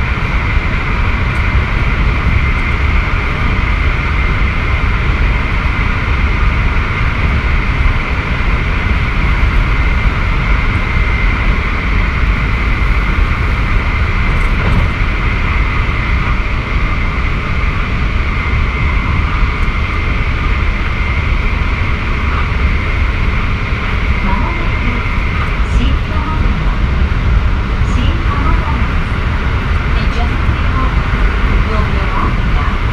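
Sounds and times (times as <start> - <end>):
high whine of electric train: 0.0 - 32.9
train wheels rumbling on rail: 0.0 - 32.9.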